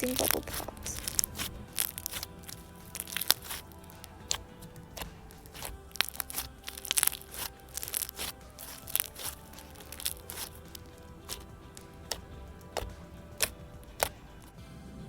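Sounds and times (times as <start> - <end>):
slime being squished: 0.0 - 14.6
quiet background music: 0.0 - 15.0.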